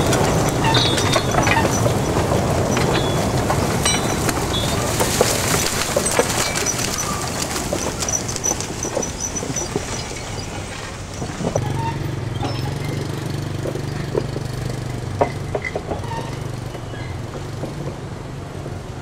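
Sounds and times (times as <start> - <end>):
clanks and knocks: 0.0 - 18.8.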